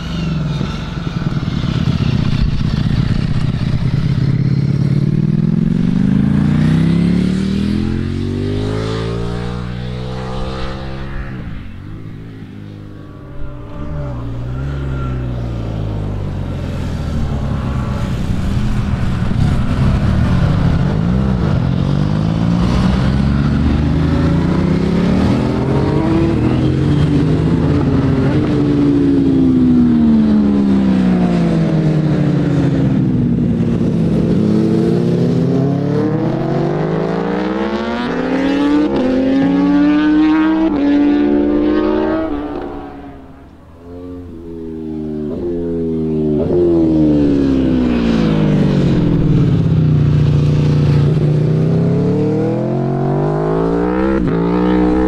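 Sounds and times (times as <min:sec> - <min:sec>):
motorcycles revving past: 0:00.0 - 0:55.0.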